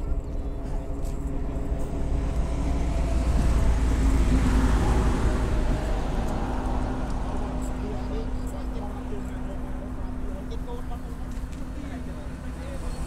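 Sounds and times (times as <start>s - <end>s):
road vehicle passing by: 0.0s - 13.0s.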